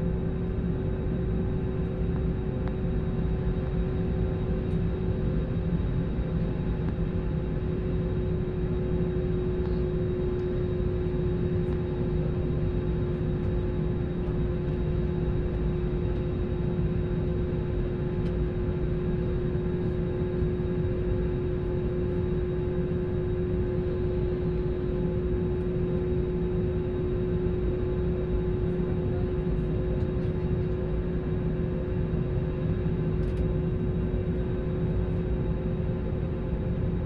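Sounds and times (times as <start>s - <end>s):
airliner cabin engine rumble: 0.0s - 37.0s
constant hum: 0.0s - 37.0s.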